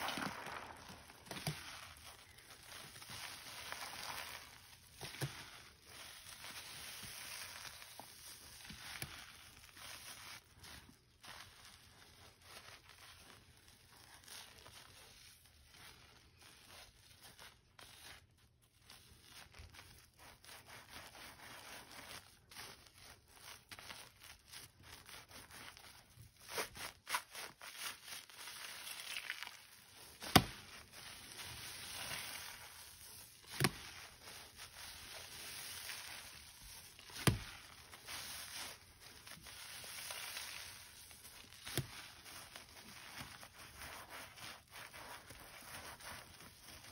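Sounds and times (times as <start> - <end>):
soapy sponge squelching: 0.0 - 46.9.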